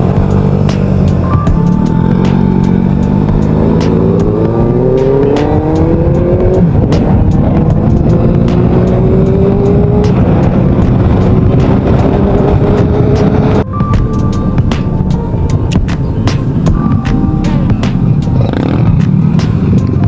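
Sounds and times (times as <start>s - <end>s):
scooter engine accelerating: 0.0s - 13.7s, 14.3s - 20.0s.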